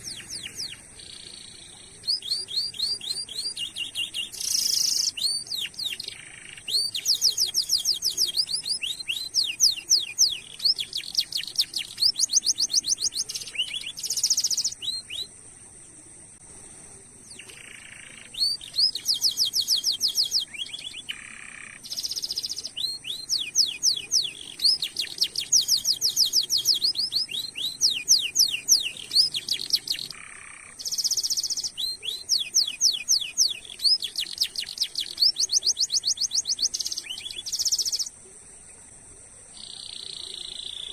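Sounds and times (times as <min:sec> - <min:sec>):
canary singing: 0:00.0 - 0:15.3, 0:17.3 - 0:38.2, 0:39.6 - 0:40.9.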